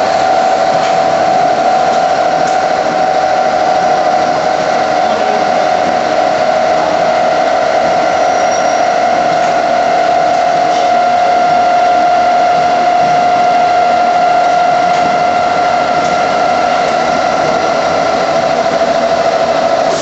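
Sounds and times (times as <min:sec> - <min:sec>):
machinery hum with whine: 0:00.0 - 0:20.0.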